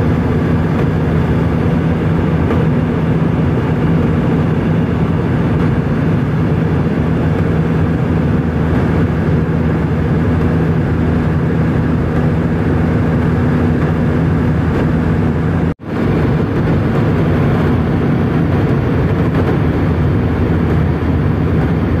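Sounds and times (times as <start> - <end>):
airliner cabin jet engine drone: 0.0 - 22.0.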